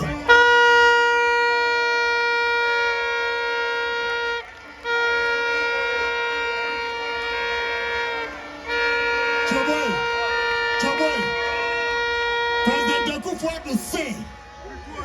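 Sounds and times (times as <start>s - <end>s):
horn blasts on a high note: 0.0s - 14.1s.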